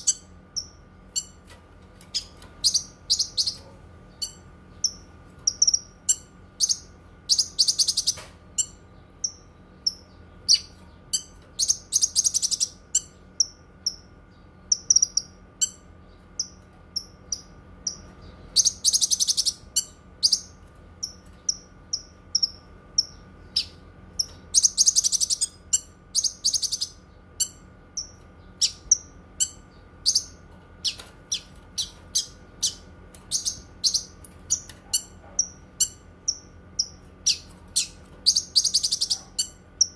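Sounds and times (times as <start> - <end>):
faint steady hum: 0.0 - 39.9
songbird chirping and trilling: 0.0 - 39.9.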